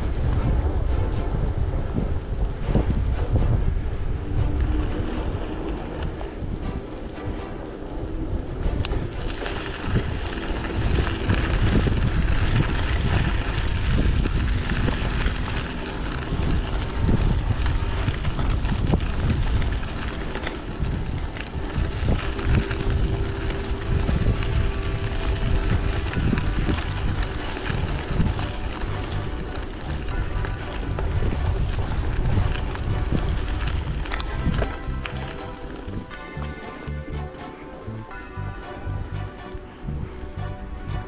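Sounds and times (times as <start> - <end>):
bicycle tyres on gravel: 0.0 - 41.0
wind buffeting microphone: 0.0 - 41.0.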